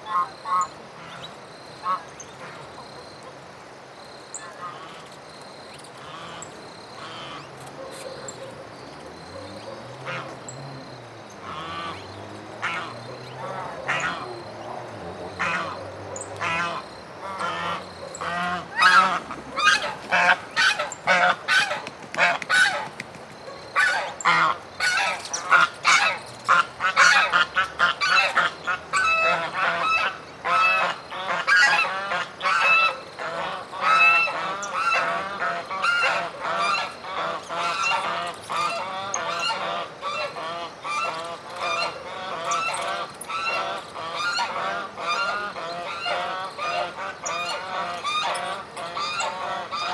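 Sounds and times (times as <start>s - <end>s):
birds calling: 4.3s - 49.9s.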